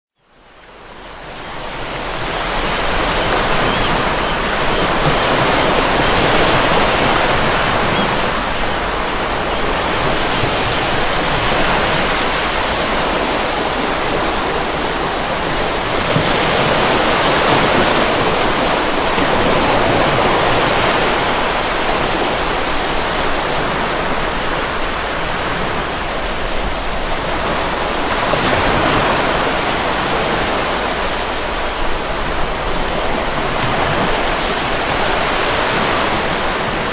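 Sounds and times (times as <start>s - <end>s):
wind: 0.1s - 36.9s
breaking waves rushing: 0.5s - 36.9s.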